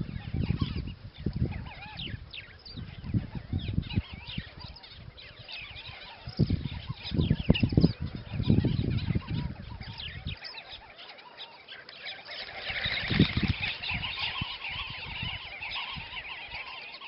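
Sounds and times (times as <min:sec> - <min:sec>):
wind rumbling on microphone: 0:00.0 - 0:10.6, 0:12.2 - 0:16.8
small birds chirping: 0:00.0 - 0:17.0.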